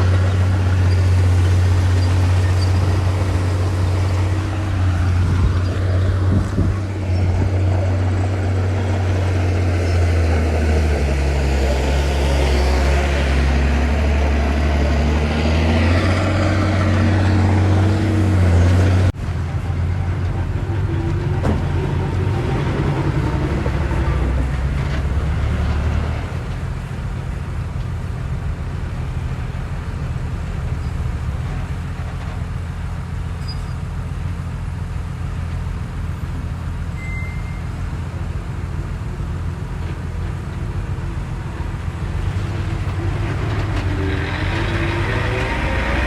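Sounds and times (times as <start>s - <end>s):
heavy machinery diesel engines: 0.0s - 46.0s.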